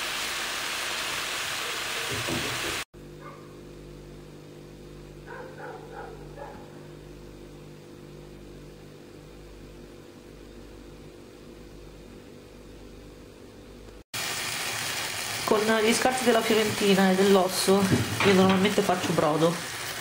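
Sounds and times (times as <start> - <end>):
low electrical hum: 3.0 - 20.0.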